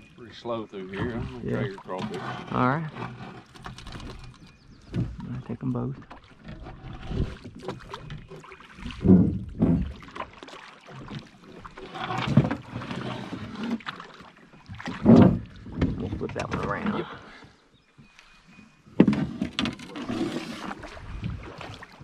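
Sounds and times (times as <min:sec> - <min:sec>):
oars pulling through water: 0:00.0 - 0:22.0.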